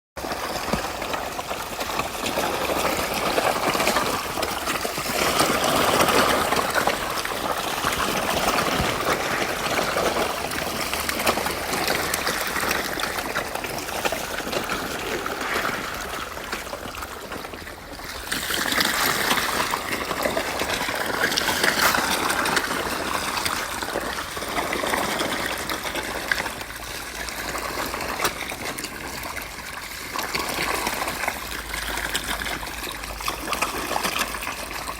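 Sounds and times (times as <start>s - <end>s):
water splashing and trickling: 0.2s - 34.9s.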